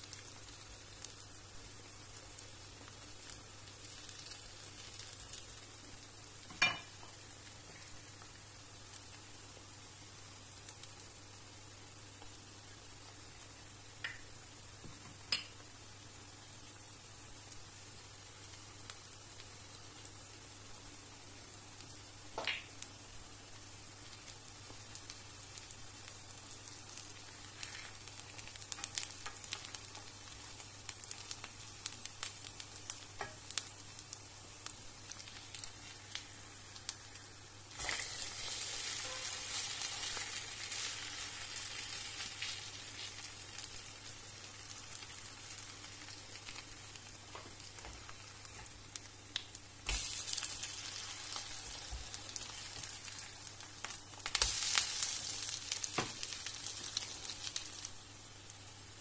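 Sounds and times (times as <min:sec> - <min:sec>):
pancakes frying in oil: 0:00.0 - 0:59.0.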